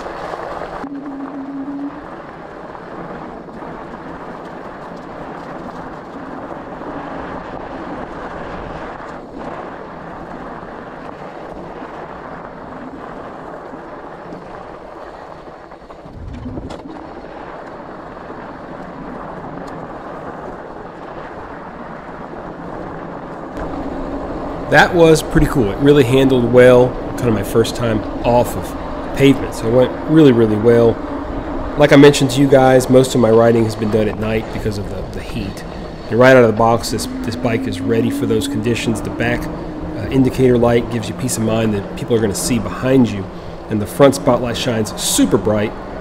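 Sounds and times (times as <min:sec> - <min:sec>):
faint steady hum: 0:00.0 - 0:46.0
wind on microphone: 0:00.0 - 0:46.0
tyres rolling on dirt: 0:02.0 - 0:46.0.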